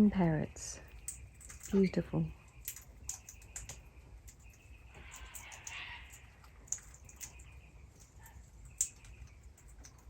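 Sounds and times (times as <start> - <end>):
beaks clicking on seed husks: 0.8 - 10.0.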